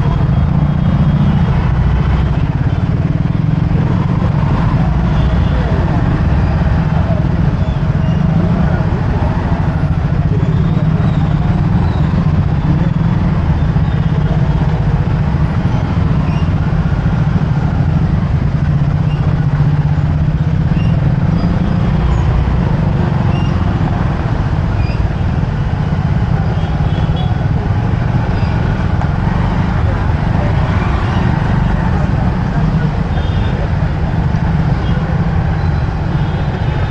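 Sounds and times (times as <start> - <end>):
motorcycle engine rumble: 0.0 - 36.9
road noise: 0.0 - 36.9.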